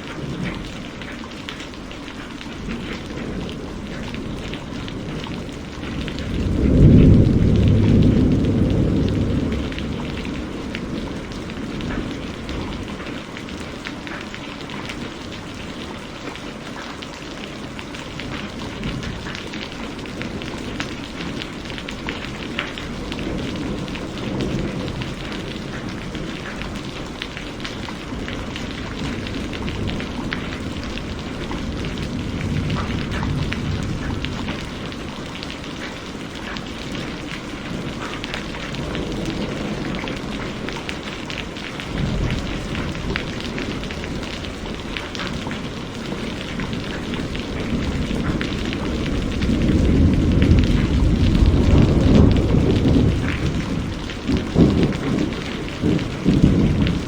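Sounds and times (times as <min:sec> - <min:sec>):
low rumbles of thunder: 0:00.0 - 0:15.9, 0:17.6 - 0:57.0
heavy rain falling: 0:00.0 - 0:57.0.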